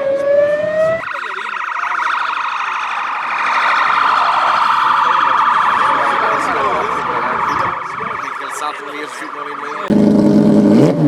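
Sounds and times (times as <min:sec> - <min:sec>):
emergency siren wailing and yelping: 0:00.0 - 0:10.2.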